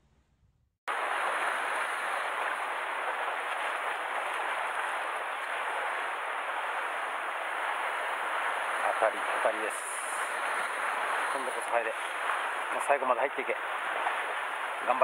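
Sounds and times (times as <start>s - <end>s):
sea water washing against rocks: 0.9s - 15.0s.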